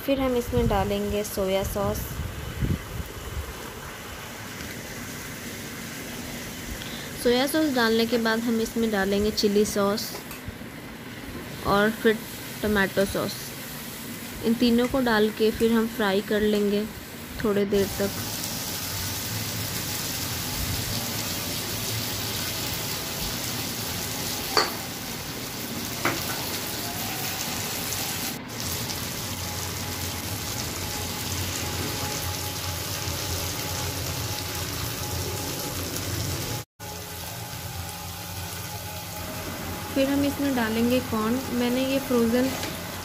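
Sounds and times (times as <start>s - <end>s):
vegetables sizzling in a pan: 2.0s - 43.0s.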